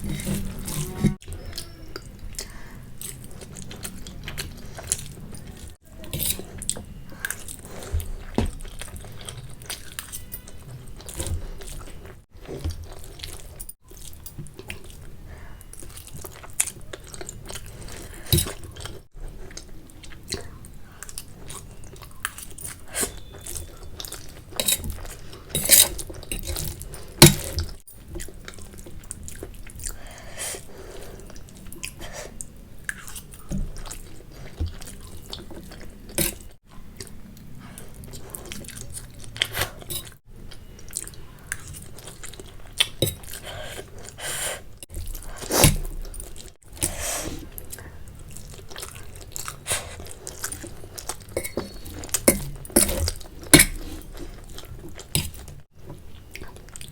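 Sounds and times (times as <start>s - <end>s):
person chewing and smacking: 0.0s - 44.2s, 44.8s - 56.9s.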